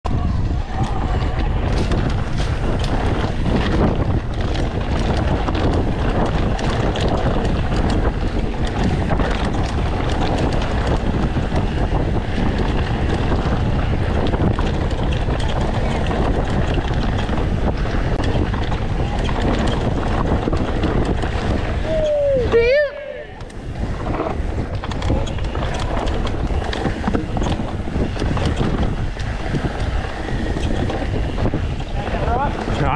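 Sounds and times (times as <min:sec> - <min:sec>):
bike tyre noise: 0:00.0 - 0:32.9
wind rushing over microphone: 0:00.0 - 0:32.9
bike rattling over rocks: 0:00.1 - 0:22.8, 0:23.4 - 0:32.9.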